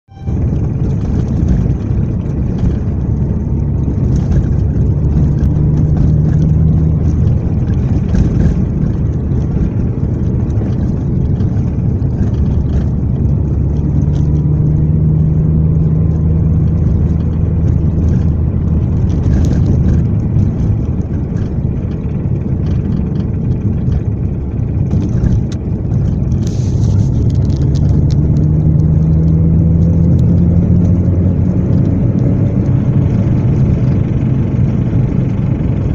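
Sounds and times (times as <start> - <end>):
car engine on overrun: 0.0 - 35.9
engine knock: 0.5 - 14.6, 15.7 - 35.9.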